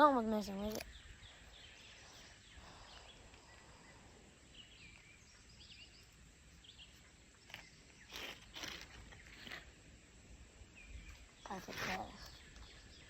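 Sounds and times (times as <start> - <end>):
faint bird chirps: 0.3 - 9.7, 10.7 - 13.0.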